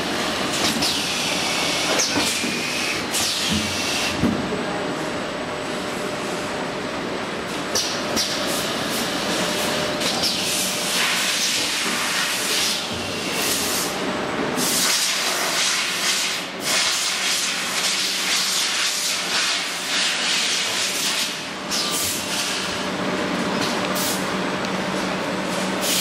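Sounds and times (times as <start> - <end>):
hot-air blowers hissing: 0.0 - 26.0.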